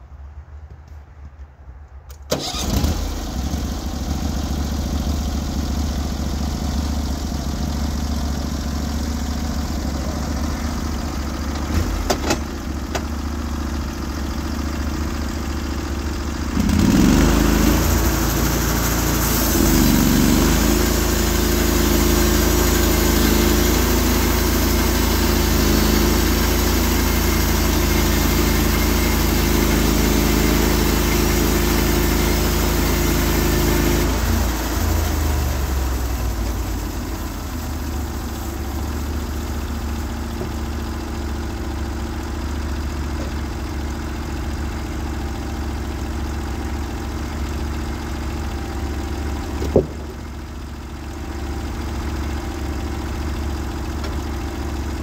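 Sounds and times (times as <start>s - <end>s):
sawmill engine running: 2.3s - 55.0s.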